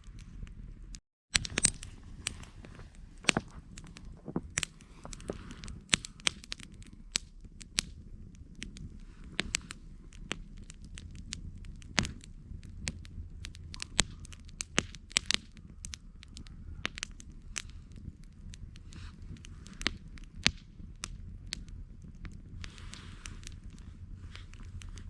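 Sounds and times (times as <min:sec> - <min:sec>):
campfire popping and snapping: 0:00.0 - 0:25.0
low rumble of flames: 0:00.0 - 0:25.0.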